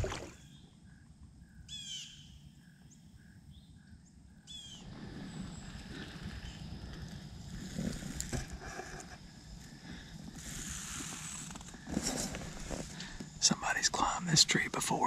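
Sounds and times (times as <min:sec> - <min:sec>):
woodland background: 0:00.0 - 0:15.0.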